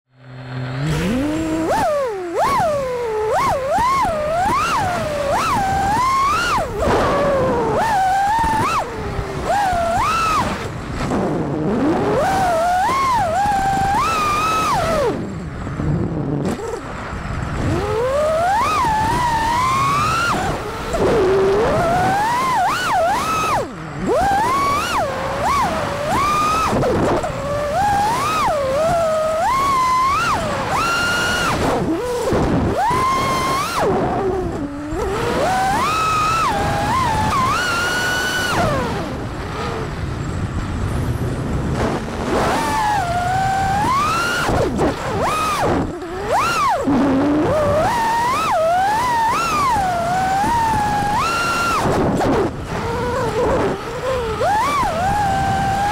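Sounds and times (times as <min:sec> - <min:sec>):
drone motors whining: 0:00.2 - 0:55.9.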